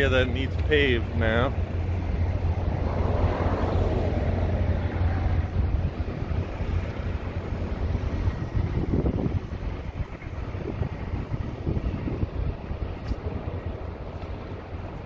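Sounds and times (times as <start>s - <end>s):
passing road traffic: 0.0s - 15.0s
wind rumbling on microphone: 0.0s - 15.0s.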